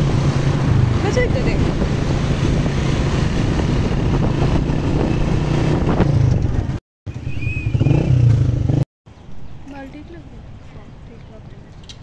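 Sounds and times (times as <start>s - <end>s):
motorcycle engines: 0.0s - 12.0s
road traffic noise: 0.0s - 12.0s
wind rumble on microphone: 0.0s - 12.0s.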